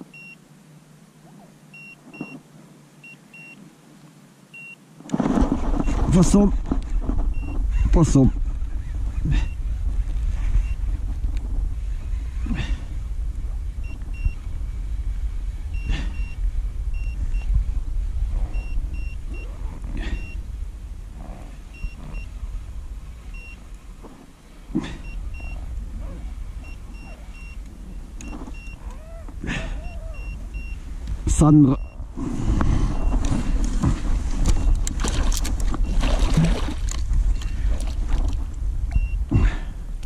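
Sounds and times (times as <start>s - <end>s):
wind buffeting microphone: 5.1s - 40.0s.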